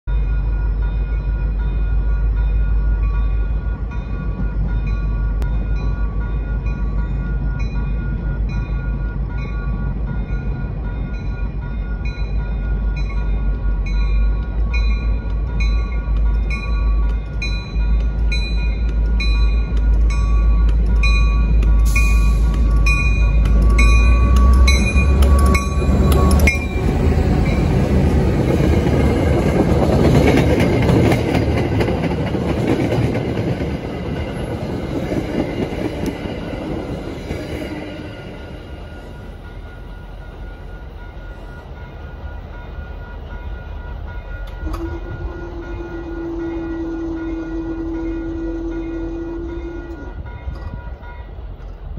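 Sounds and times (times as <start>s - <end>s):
crossing warning bell ringing: 0.1s - 51.8s
train coaches passing: 0.1s - 51.9s.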